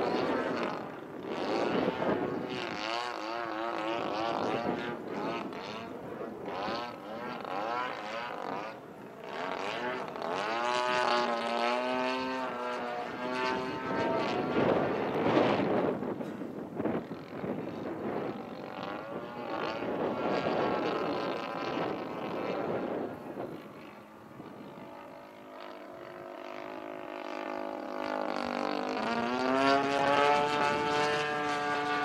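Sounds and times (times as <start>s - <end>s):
model plane engine buzzing: 0.0s - 32.0s.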